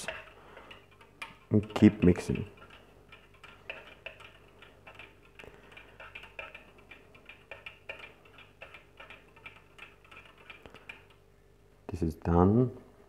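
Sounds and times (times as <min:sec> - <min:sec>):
spoon stirring in metal pot: 0:00.0 - 0:11.2.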